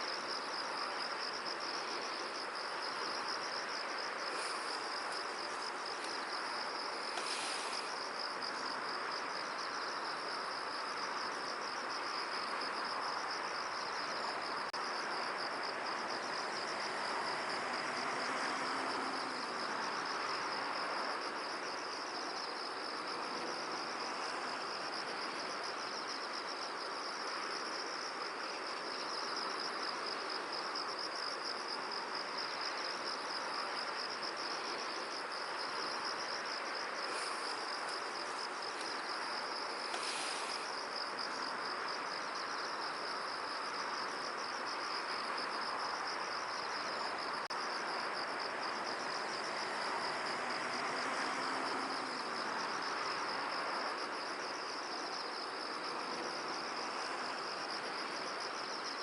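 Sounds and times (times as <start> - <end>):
insects trilling: 0.0 - 59.0
soft hiss of outdoor air: 0.0 - 59.0.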